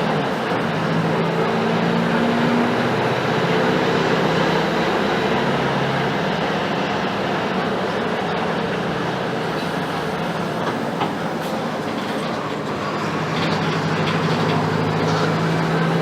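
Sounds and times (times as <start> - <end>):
bus body rattling and clicking: 0.0 - 16.0
bus diesel engine humming: 0.0 - 16.0.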